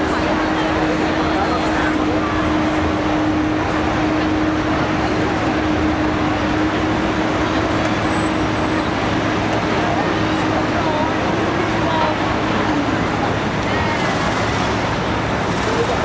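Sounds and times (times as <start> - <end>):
traffic noise: 0.0 - 16.0
voices of passers-by: 0.0 - 16.0.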